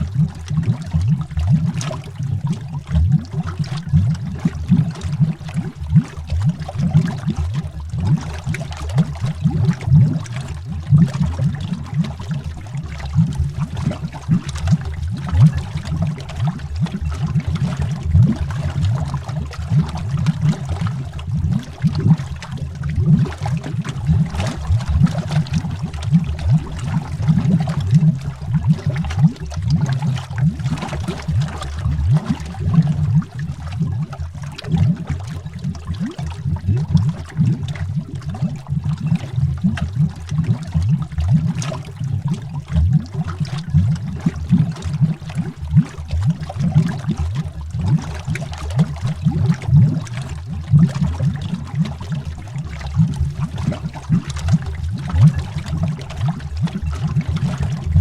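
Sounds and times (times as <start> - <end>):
underwater bubbling: 0.0 - 58.0.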